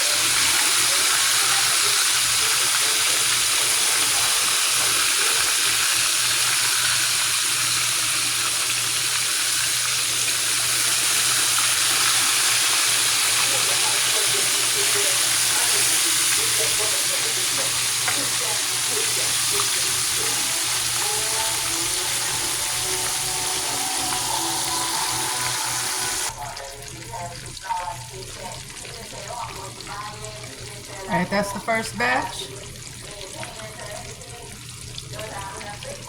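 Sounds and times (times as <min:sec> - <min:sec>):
meat sizzling in oil: 0:00.0 - 0:36.0.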